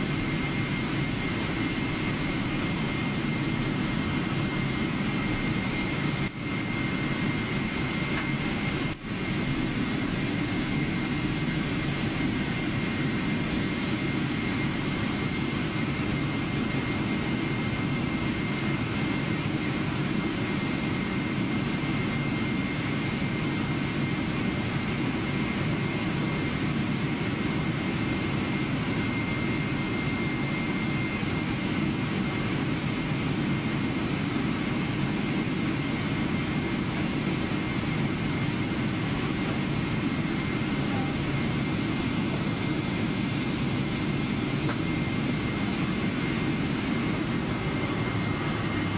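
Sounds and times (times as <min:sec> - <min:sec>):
jet engines idling: 0:00.0 - 0:48.9.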